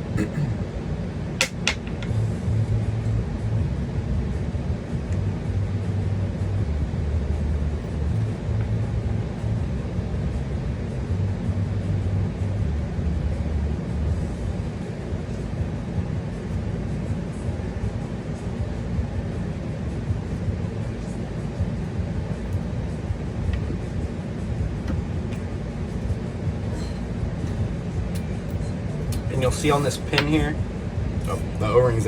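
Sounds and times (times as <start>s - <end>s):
droning hum: 0.0s - 32.0s
low background rumble: 0.0s - 32.0s.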